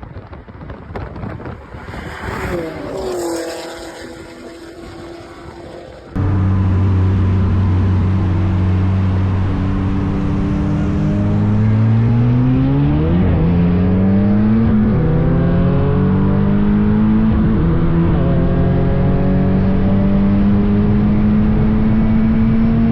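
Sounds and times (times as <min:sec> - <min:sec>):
car engines accelerating hard: 0:00.0 - 0:22.9.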